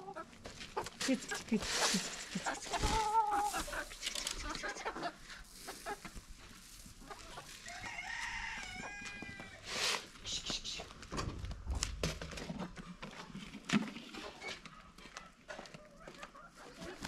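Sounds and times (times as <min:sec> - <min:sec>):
chickens calling: 0:00.0 - 0:11.1, 0:14.1 - 0:17.0.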